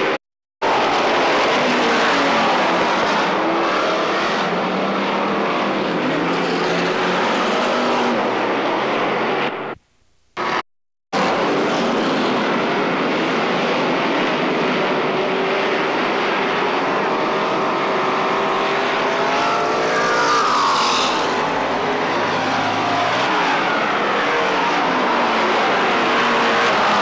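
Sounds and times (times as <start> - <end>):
racing car engines: 0.0 - 9.8, 10.4 - 10.6, 11.2 - 27.0.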